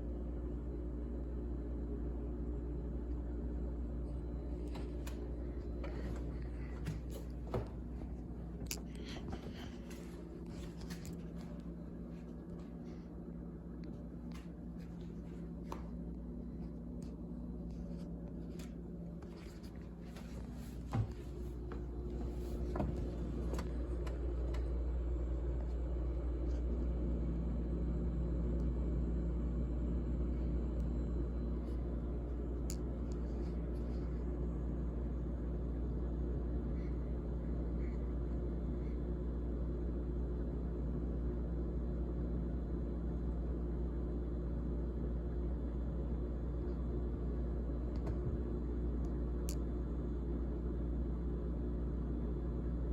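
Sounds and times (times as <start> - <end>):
refrigerator humming: 0.0 - 52.9.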